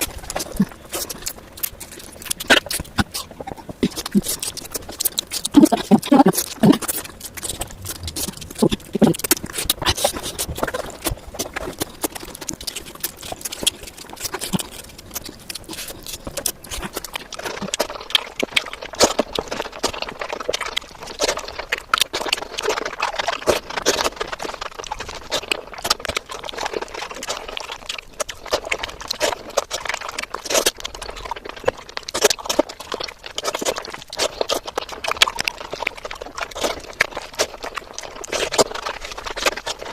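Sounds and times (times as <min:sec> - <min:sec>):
chewing and lip-smacking: 0:00.0 - 0:39.9.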